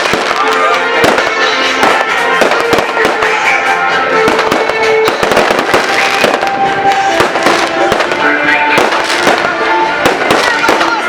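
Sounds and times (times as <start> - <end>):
firecrackers crackling: 0.0 - 11.0
music with held notes: 0.0 - 11.0.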